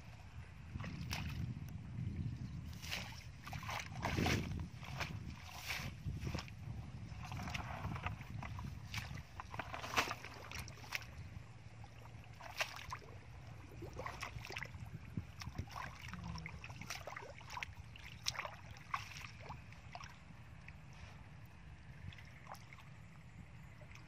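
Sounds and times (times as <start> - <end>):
low steady rumble: 0.0 - 24.0
muddy water sloshing: 0.0 - 24.0.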